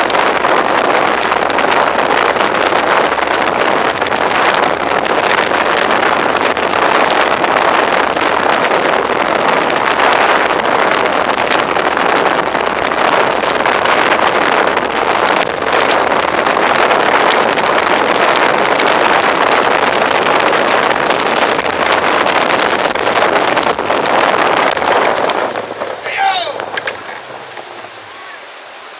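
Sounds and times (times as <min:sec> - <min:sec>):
motorboat running at speed: 0:00.0 - 0:28.9
water rushing past hull: 0:00.0 - 0:28.9
wind buffeting microphone: 0:00.0 - 0:28.9.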